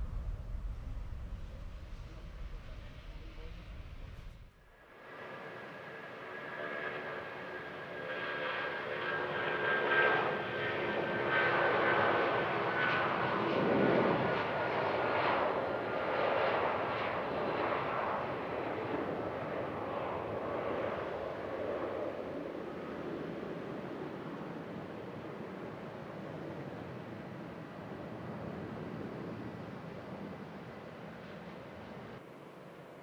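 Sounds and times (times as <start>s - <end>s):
jet engines passing: 0.0s - 33.0s.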